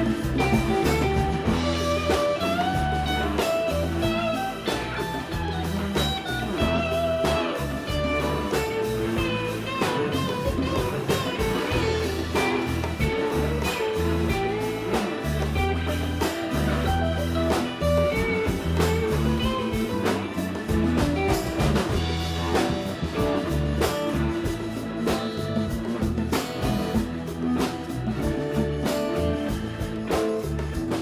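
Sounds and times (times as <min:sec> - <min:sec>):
bass and drums: 0:00.0 - 0:31.0
lead guitar bending lines: 0:00.0 - 0:31.0.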